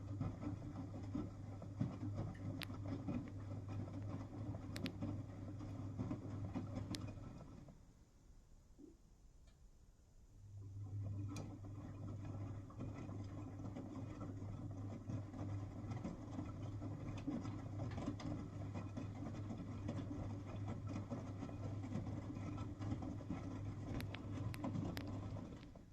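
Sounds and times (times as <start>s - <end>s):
washing machine running: 0.0s - 7.9s, 10.4s - 25.9s.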